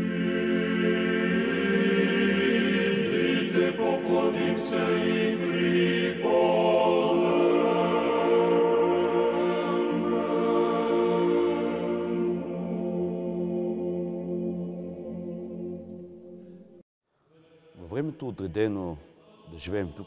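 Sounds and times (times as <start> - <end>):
choir chanting sustained chords: 0.0 - 20.0.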